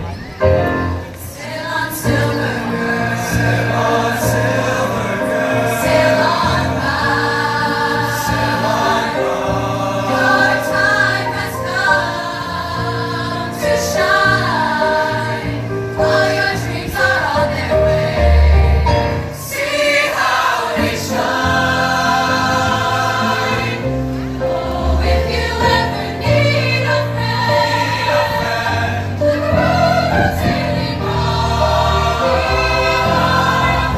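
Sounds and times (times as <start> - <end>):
choir singing in harmony: 0.6 - 33.9.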